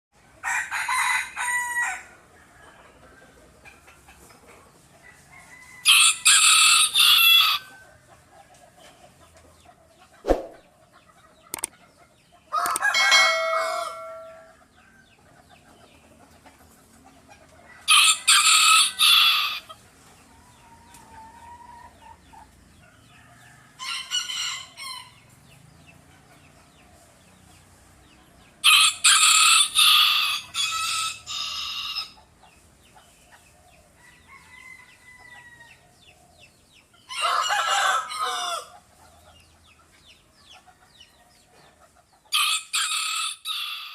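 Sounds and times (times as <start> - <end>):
chickens crowing and clucking: 0.2 - 43.9.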